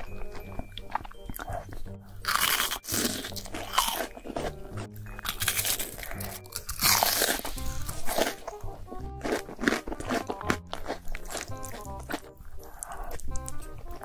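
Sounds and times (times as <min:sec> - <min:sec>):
crunchy chewing: 0:00.0 - 0:14.0
music playing: 0:00.0 - 0:14.0.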